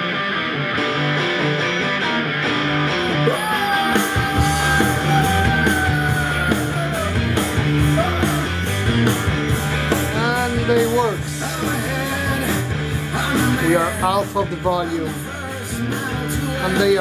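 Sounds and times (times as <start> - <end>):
drums: 0.0 - 17.0
rock song with guitar: 0.0 - 17.0.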